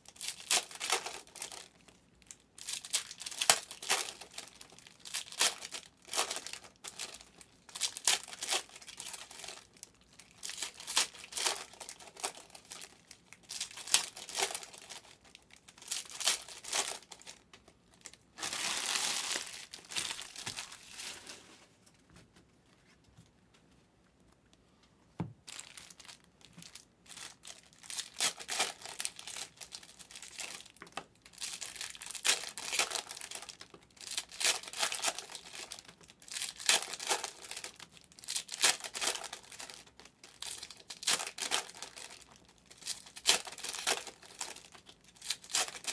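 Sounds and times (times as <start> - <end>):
foil wrappers crinkling and tearing: 0.0 - 21.6, 25.5 - 45.9.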